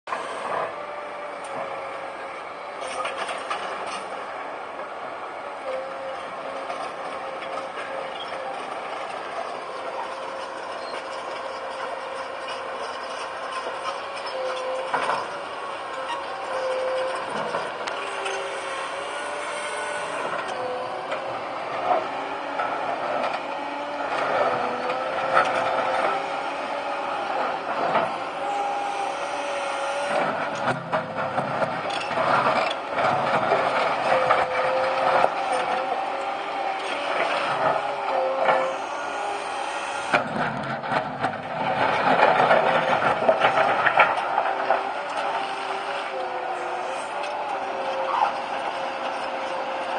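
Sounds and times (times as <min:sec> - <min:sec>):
excavator engine and hydraulics whine: 0:00.1 - 0:49.9.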